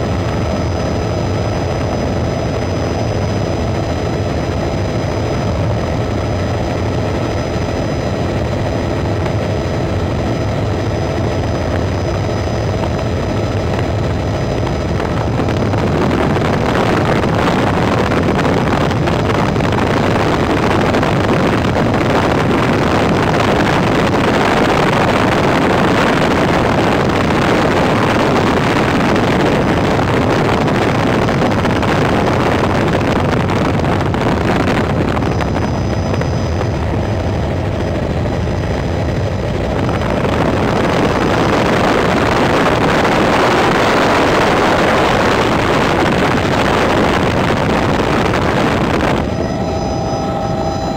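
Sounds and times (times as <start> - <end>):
helicopter engine and rotor drone: 0.0 - 50.9
rushing noise: 0.0 - 50.9.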